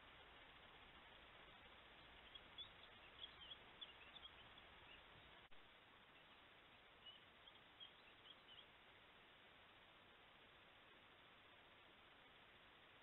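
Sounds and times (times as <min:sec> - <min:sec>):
distant small birds chirping: 0:00.0 - 0:13.0
microphone hiss: 0:00.0 - 0:13.0.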